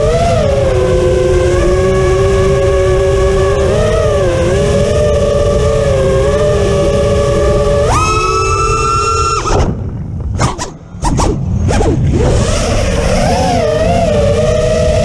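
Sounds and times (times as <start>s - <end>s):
drone motors whining: 0.0s - 15.0s
wind on microphone: 0.0s - 15.0s.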